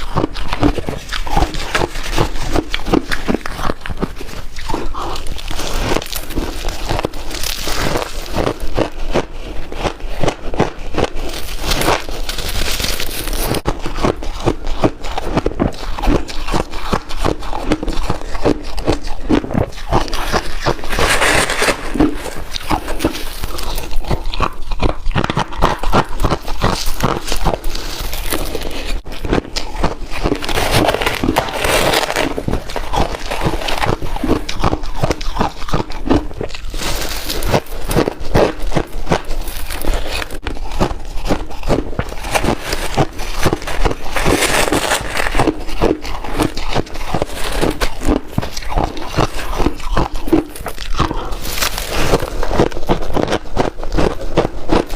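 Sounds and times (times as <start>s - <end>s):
ice crunching between teeth: 0.0s - 54.9s.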